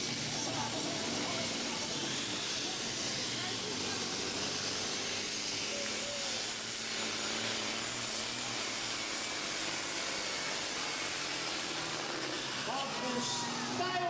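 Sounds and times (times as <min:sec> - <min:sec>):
truck engine running hard: 0:00.0 - 0:14.0.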